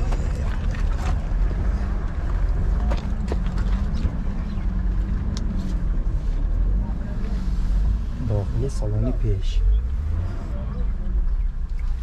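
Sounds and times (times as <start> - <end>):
outdoor market background: 0.0 - 12.0.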